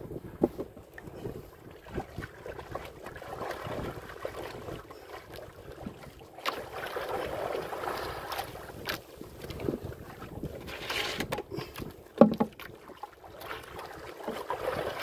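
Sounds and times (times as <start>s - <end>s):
wind on microphone: 0.0s - 15.0s
water slapping against boat: 0.2s - 15.0s.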